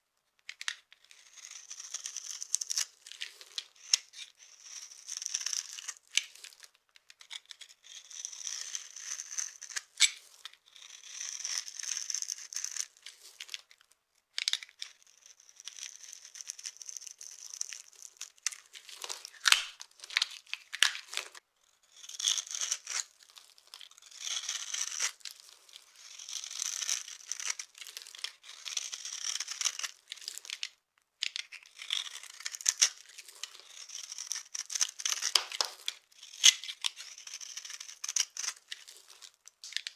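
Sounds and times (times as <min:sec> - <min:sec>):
knife scraping soap: 0:00.4 - 0:13.8, 0:14.4 - 0:39.9
soap cracking and crumbling: 0:00.4 - 0:21.4, 0:22.0 - 0:39.9.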